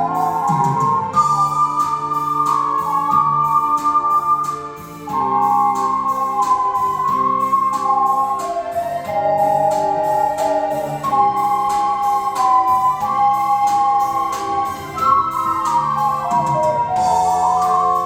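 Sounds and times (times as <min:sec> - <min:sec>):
low held chords: 0:00.0 - 0:18.0
ocarina ensemble melody: 0:00.0 - 0:18.0
steady beat: 0:00.0 - 0:18.0.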